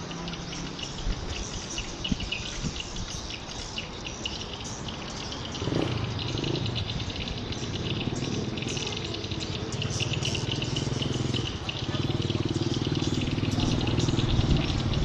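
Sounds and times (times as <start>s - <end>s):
swiftlets twittering: 0.0s - 15.0s.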